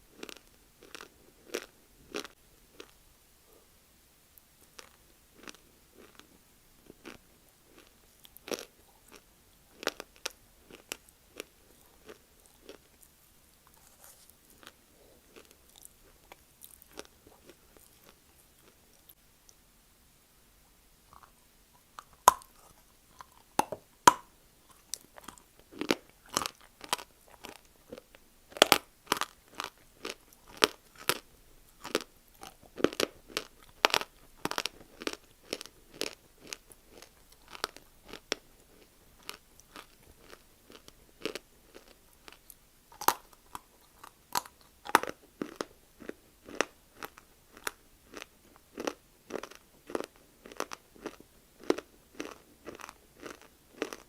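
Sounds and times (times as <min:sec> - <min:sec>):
crunching and chewing clay: 0:00.1 - 0:03.0, 0:04.6 - 0:19.2, 0:21.1 - 0:54.0.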